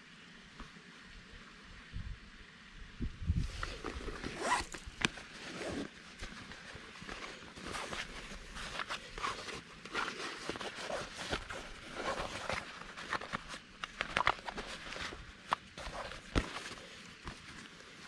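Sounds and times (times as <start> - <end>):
canvas bag rustling: 3.4 - 18.0.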